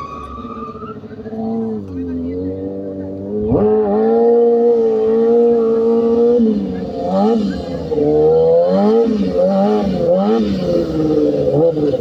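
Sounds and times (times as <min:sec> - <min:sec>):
motorcycle engine revving: 0:01.0 - 0:12.0.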